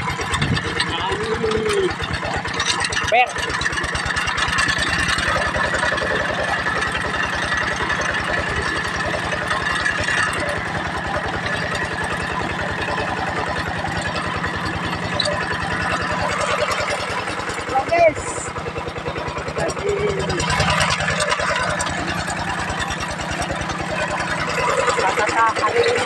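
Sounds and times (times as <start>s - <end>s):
tractor diesel engine chugging: 0.0s - 26.0s.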